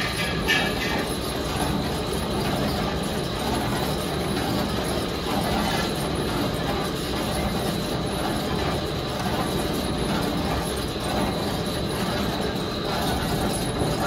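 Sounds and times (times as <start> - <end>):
wrapping machine rumble: 0.0 - 14.0.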